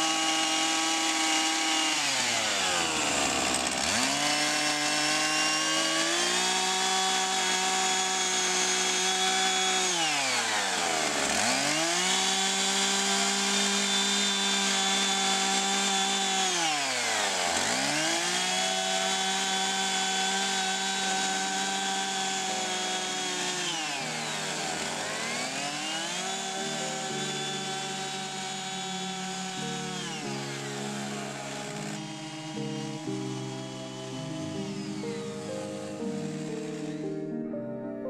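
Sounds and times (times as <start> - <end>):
tool gouging grooves in wood: 0.0 - 35.1, 36.1 - 37.0
power tool motor spinning: 0.0 - 37.2.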